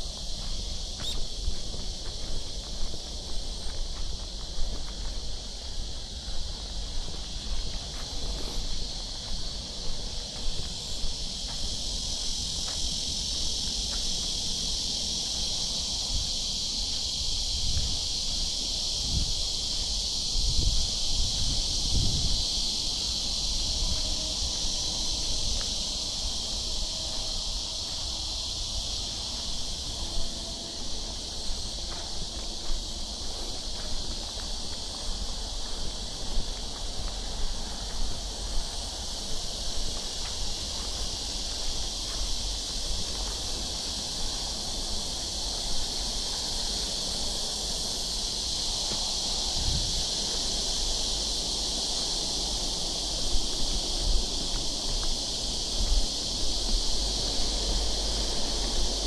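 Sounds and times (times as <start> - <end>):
cicadas droning: 0.0 - 59.0
faint footsteps on a path: 0.0 - 59.0
wind rumble on microphone: 0.0 - 59.0.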